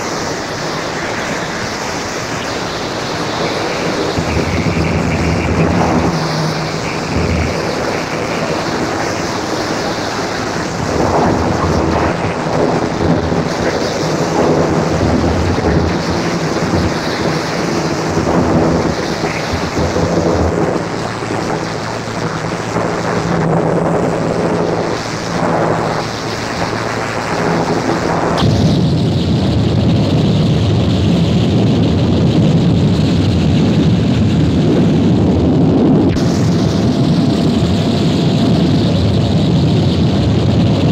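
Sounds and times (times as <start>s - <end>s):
distorted harsh noise music: 0.0s - 40.9s
droning tones: 0.0s - 40.9s
low rumbling wash: 0.0s - 40.9s.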